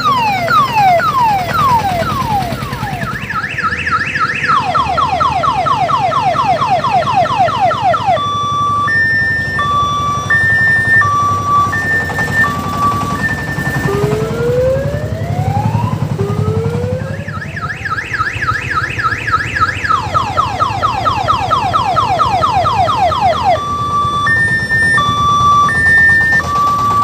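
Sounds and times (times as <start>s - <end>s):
diesel engine low throb: 0.0s - 27.0s
electronic siren cycling patterns: 0.0s - 27.0s.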